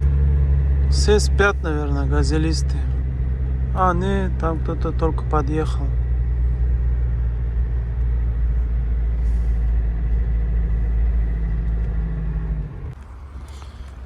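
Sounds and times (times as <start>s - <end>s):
van engine running: 0.0s - 14.0s.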